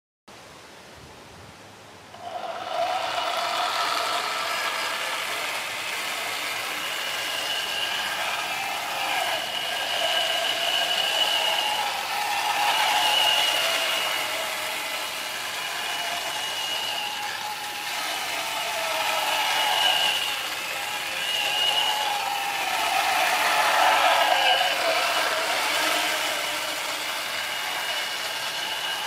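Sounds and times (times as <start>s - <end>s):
electric motors whining: 2.1s - 29.0s.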